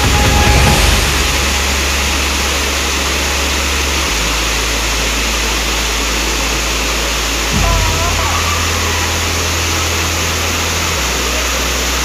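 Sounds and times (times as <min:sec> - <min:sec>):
background music: 0:00.0 - 0:12.0
low rumble: 0:00.0 - 0:12.0
waterfall rushing: 0:00.0 - 0:12.0.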